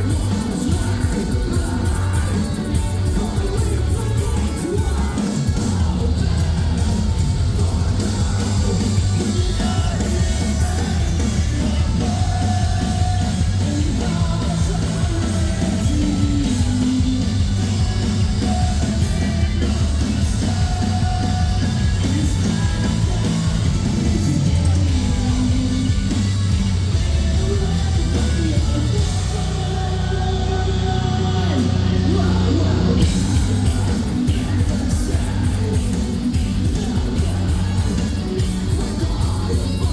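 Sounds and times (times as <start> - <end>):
metalcore band playing: 0.0 - 39.9
person singing and yelling: 0.0 - 39.9.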